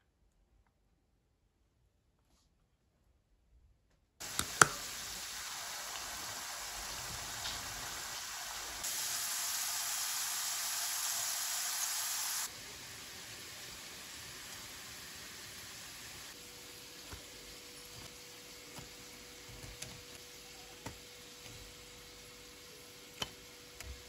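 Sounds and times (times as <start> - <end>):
potatoes deep-frying in oil: 4.2 - 24.0.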